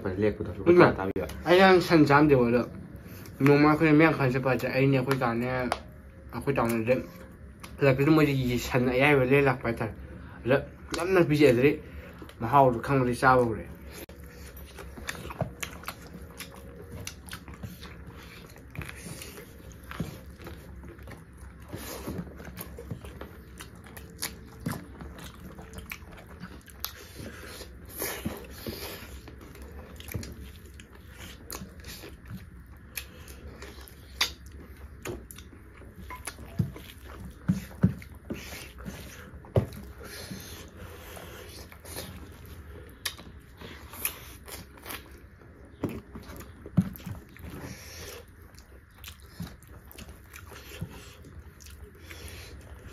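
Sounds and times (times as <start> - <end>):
chewing noises: 2.1 - 52.9.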